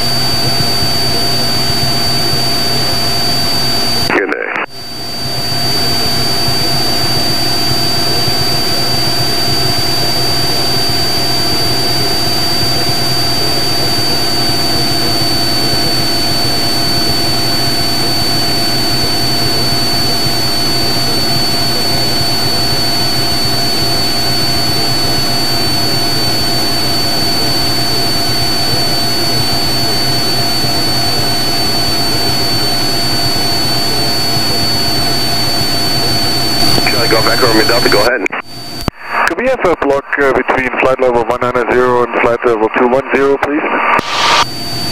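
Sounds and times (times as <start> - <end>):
aircraft engine and propeller drone: 0.0 - 4.1, 4.7 - 38.8, 44.2 - 44.9
thin high whine: 0.0 - 39.4, 43.4 - 44.9.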